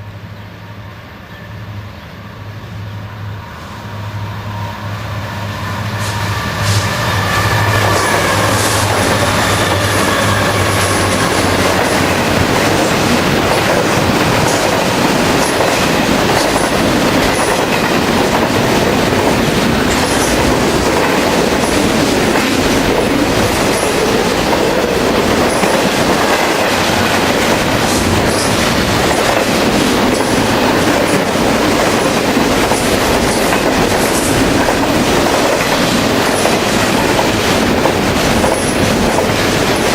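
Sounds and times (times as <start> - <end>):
train cars rumbling: 0.0 - 39.9
train wheels clacking on rails: 5.5 - 39.9.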